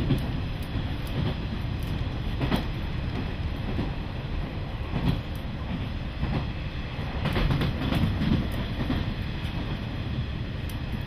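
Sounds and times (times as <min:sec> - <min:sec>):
train running rumble: 0:00.0 - 0:11.0
wheels clicking over rail joints: 0:00.0 - 0:11.0.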